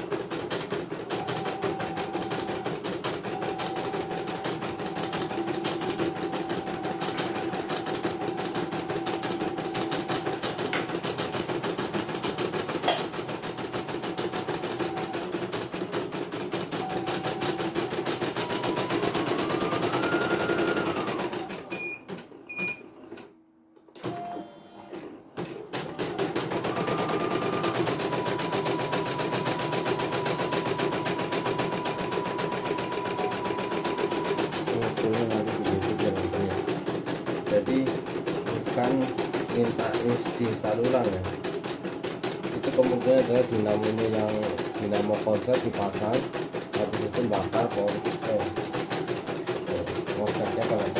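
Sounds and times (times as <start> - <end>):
embroidery machine stitching rattle: 0.0 - 22.2, 25.4 - 50.9.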